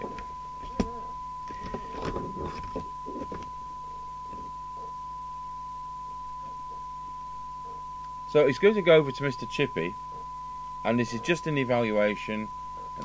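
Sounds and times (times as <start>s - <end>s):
steady test tone from loudspeaker: 0.0s - 13.0s.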